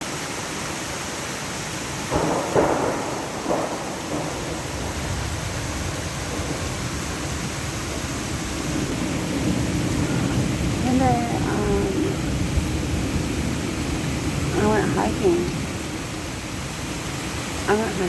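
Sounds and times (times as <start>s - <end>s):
heavy rain falling: 0.0s - 18.0s
crackling thunder: 2.0s - 17.7s.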